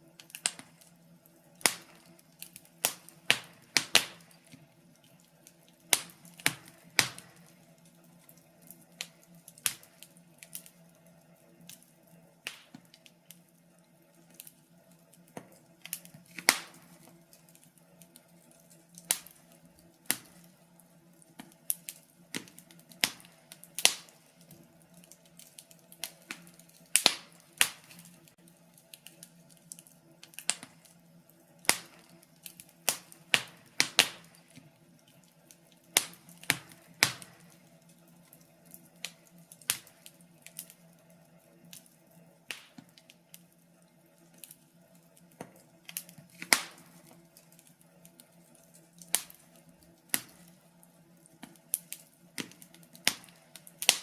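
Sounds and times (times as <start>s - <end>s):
faint steady hum: 0.0s - 54.0s
fire crackling and popping: 0.0s - 54.0s.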